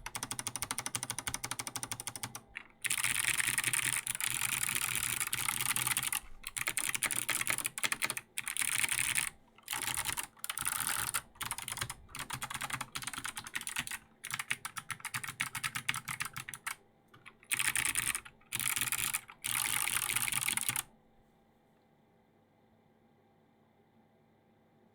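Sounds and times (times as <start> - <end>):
clicky keyboard keys clicking: 0.0 - 20.9.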